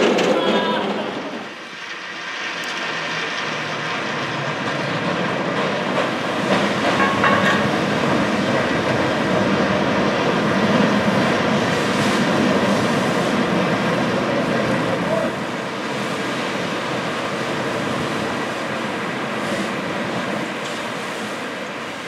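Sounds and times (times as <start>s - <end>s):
cable car rumbling on rails: 0.0s - 22.0s.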